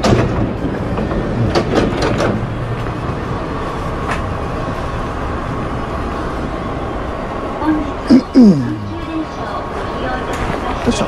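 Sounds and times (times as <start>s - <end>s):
train humming: 0.0s - 11.0s.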